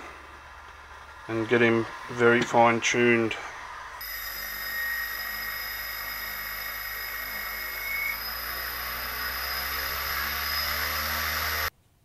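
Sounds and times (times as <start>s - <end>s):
drone motors whining: 0.0s - 11.7s.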